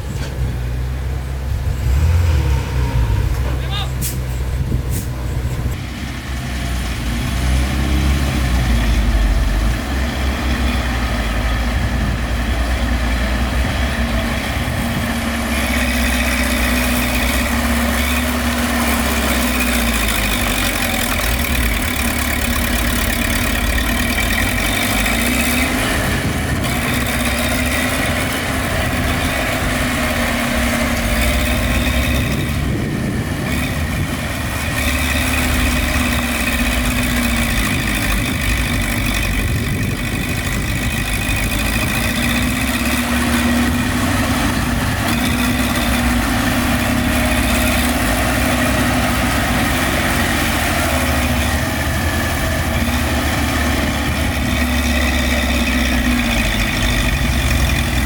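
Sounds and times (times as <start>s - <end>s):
diesel machinery engine rumbling: 0.0s - 58.0s.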